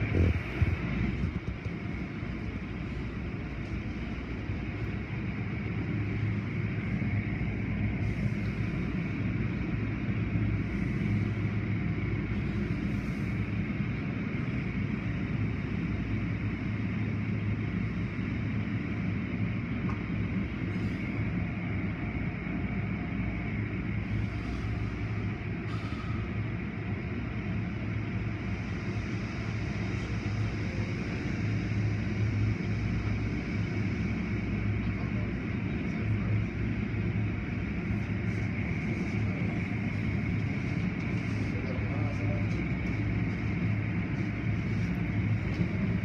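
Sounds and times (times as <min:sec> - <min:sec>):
car wash machinery rumbling: 0:00.0 - 0:46.0.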